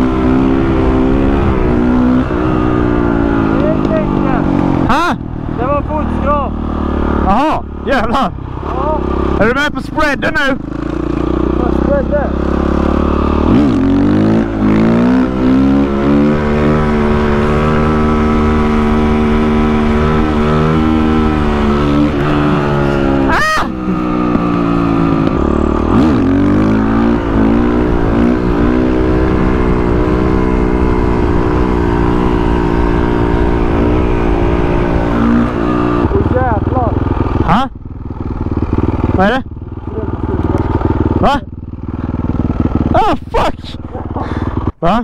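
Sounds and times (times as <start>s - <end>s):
wind rumble: 0.0s - 10.0s, 12.4s - 44.8s
motorcycle engine running: 0.0s - 45.0s.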